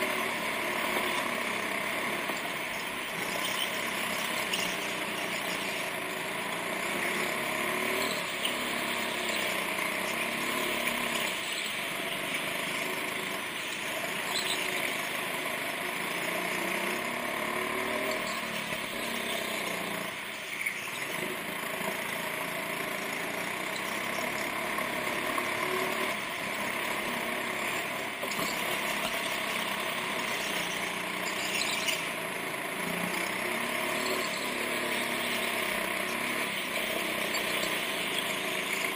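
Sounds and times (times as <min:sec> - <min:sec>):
go-kart engine: 0:00.0 - 0:38.9.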